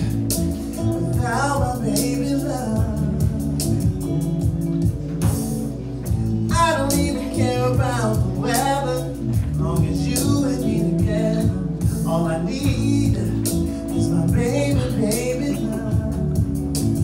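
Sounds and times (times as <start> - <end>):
man singing: 0.0 - 5.0, 6.4 - 17.0
guitar accompaniment: 0.0 - 17.0.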